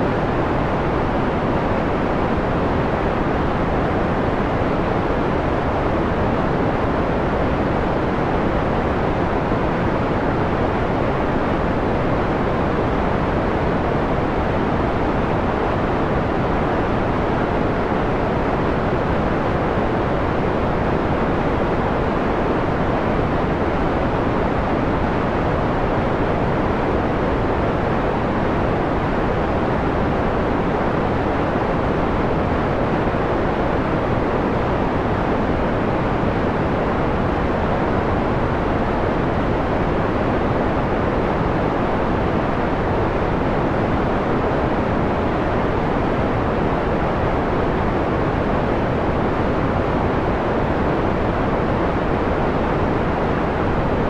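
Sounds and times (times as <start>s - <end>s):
dull filtered noise rush: 0.0s - 54.0s.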